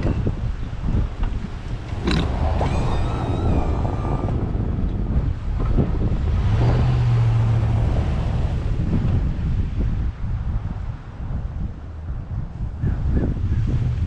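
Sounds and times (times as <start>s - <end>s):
engine running under load: 0.0s - 12.0s
wind buffeting microphone: 0.0s - 14.0s
steady low hum: 0.6s - 12.5s.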